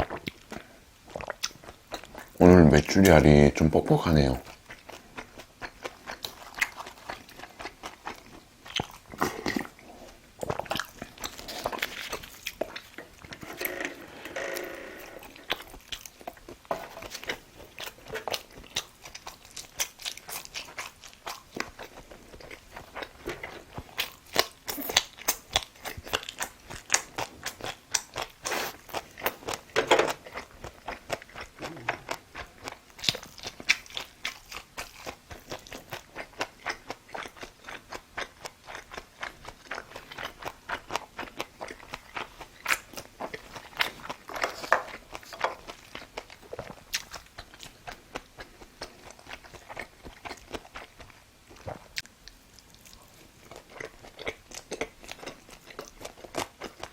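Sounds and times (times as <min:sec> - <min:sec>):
person chewing: 0:00.0 - 0:03.5, 0:04.1 - 0:56.9.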